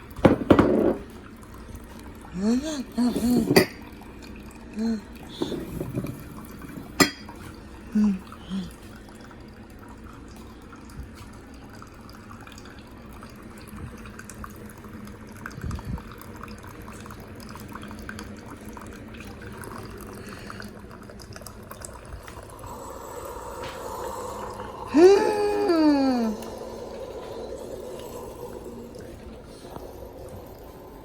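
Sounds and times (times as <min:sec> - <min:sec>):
coffee dripping into cup: 0:00.0 - 0:31.0.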